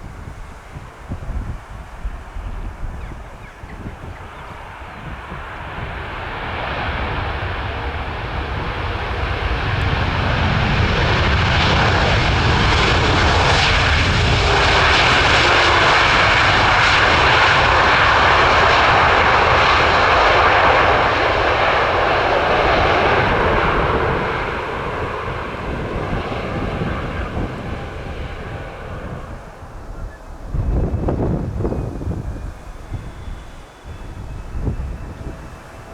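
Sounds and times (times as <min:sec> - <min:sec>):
jet airliner passing overhead: 0:00.0 - 0:35.9.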